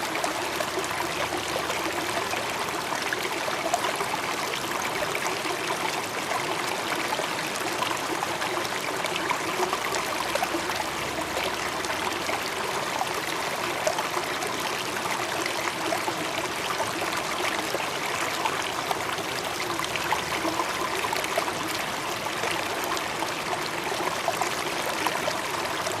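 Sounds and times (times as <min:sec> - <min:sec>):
stream babbling: 0:00.0 - 0:26.0.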